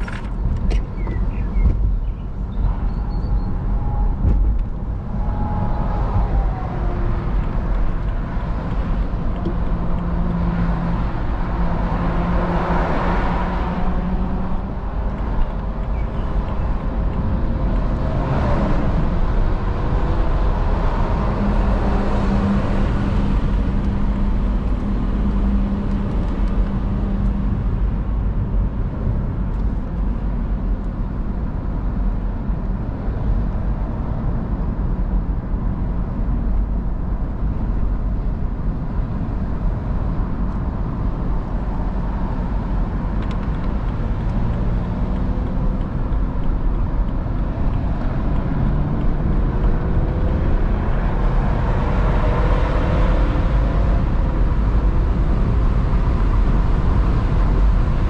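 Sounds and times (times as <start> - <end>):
wind and tyre rumble: 0.0 - 58.0.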